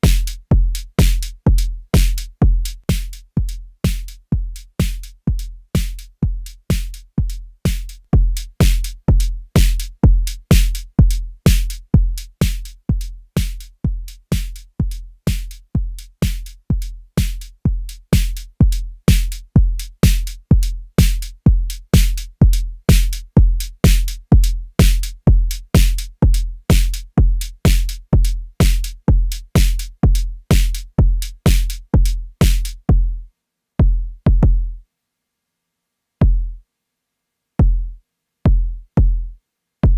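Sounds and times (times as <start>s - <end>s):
drum machine kick: 0.0s - 33.2s, 33.8s - 34.8s, 36.2s - 36.6s, 37.6s - 39.9s.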